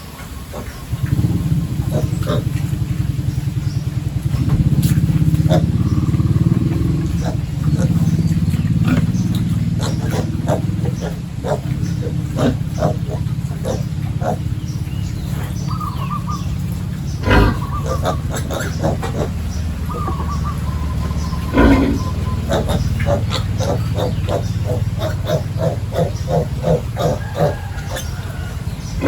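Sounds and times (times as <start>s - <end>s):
pigs grunting: 0.0s - 29.0s
pigs squealing: 0.0s - 29.0s
steady low hum: 0.0s - 29.0s.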